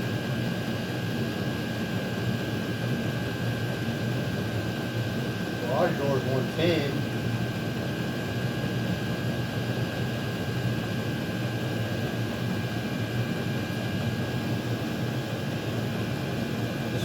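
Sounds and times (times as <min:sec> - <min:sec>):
air heater blower and combustion: 0:00.0 - 0:17.0.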